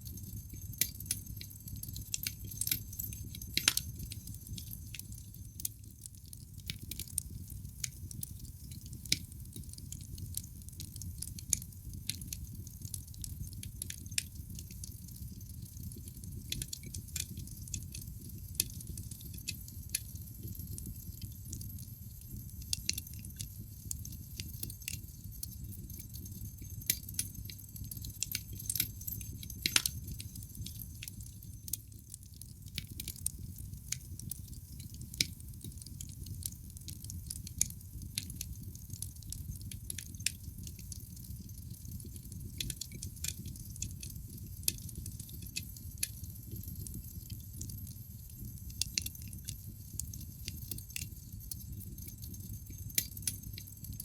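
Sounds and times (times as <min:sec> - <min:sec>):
rumble of flames: 0:00.0 - 0:54.0
logs crackling and popping: 0:02.2 - 0:53.9.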